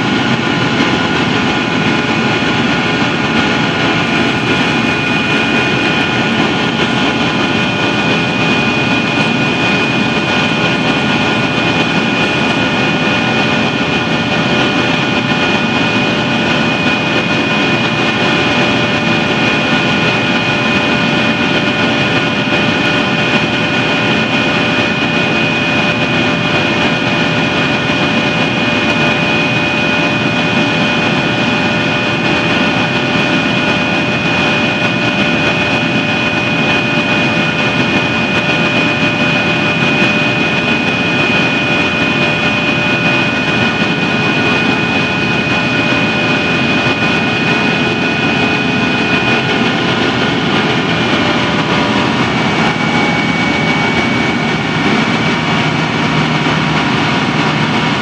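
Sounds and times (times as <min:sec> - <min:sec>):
high engine whine: 0:00.0 - 0:58.0
jet engine rush in cabin: 0:00.0 - 0:58.0.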